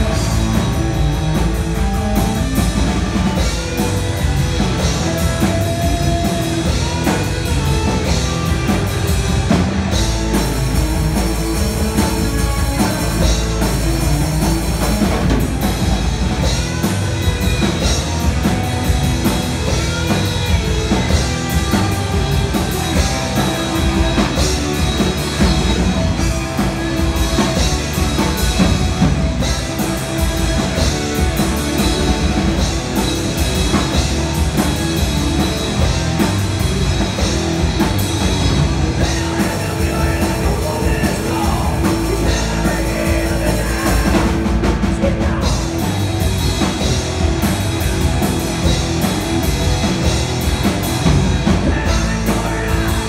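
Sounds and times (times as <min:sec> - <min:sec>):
bass guitar: 0:00.0 - 0:53.0
drum kit beat: 0:00.0 - 0:53.0
electric guitars: 0:00.0 - 0:53.0.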